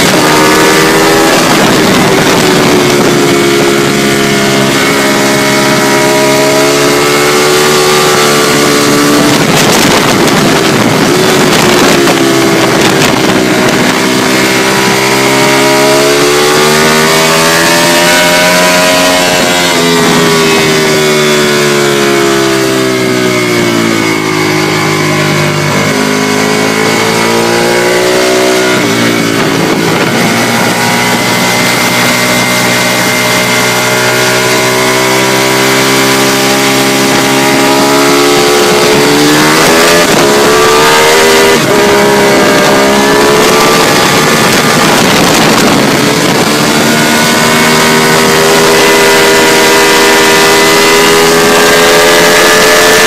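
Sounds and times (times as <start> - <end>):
motorcycle engine revving: 0.0 - 53.0
wind rush: 0.0 - 53.0.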